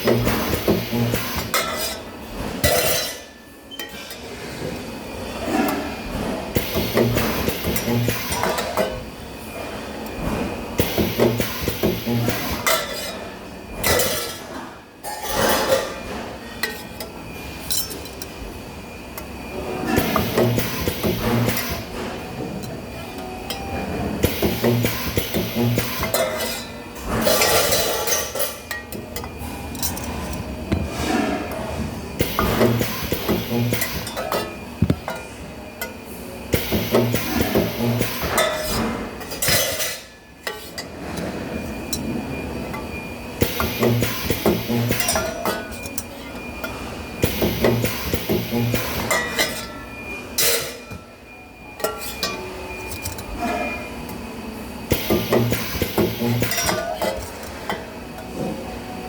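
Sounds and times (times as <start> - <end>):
shop background noise: 0.0 - 59.0.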